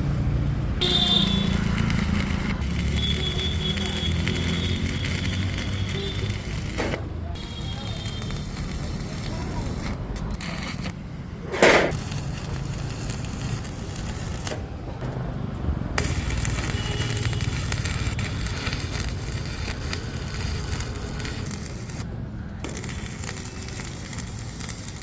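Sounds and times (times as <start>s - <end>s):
welding arc crackling: 0.8s - 15.1s, 16.0s - 25.0s.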